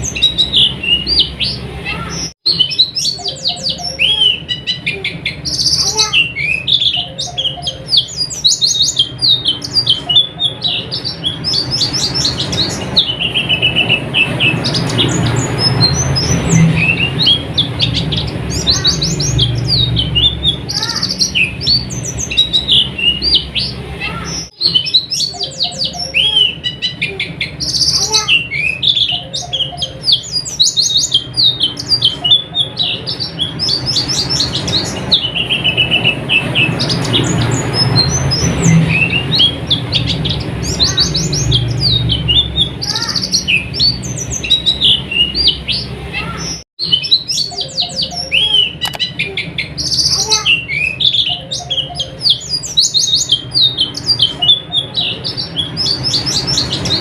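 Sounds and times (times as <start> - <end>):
bird twittering high-pitched: 0.0 - 57.0.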